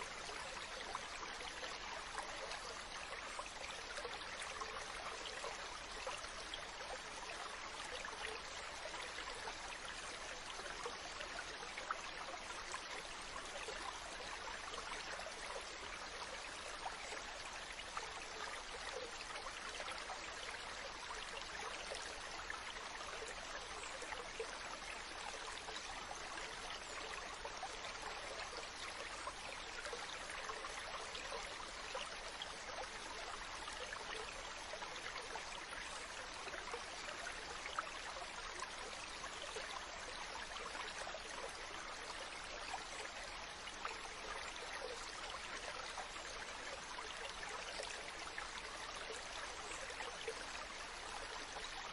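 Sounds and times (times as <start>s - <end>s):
water trickling: 0.0s - 51.9s.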